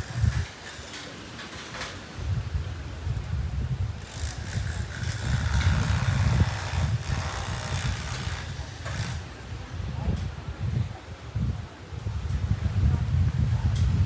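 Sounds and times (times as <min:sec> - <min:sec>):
wind buffeting microphone: 0:00.0 - 0:00.8, 0:01.9 - 0:14.0
faint breeze hiss: 0:00.0 - 0:14.0.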